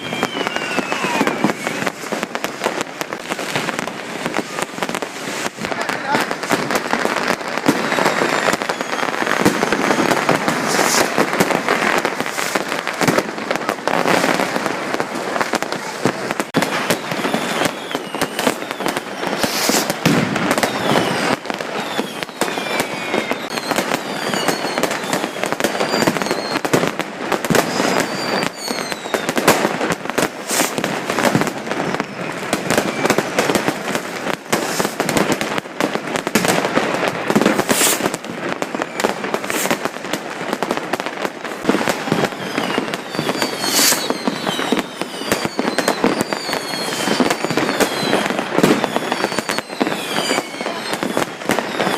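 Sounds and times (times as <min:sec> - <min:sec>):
fireworks bangs and crackling: 0:00.0 - 0:51.9
whistling fireworks: 0:00.0 - 0:51.9.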